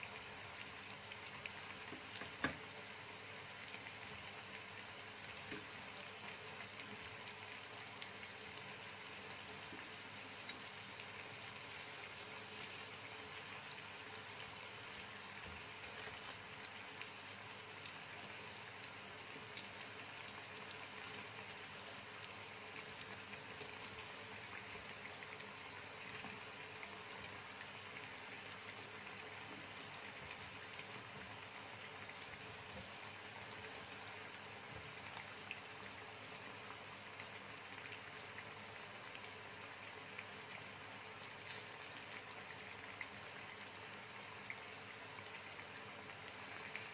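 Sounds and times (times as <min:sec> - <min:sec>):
chicken frying in oil: 0:00.0 - 0:46.9.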